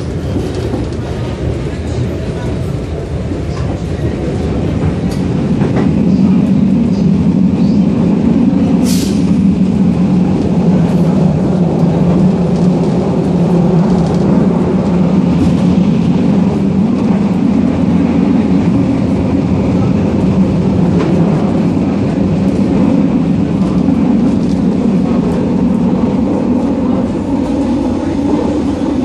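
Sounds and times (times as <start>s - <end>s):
tram rumbling on rails: 0.0s - 29.0s.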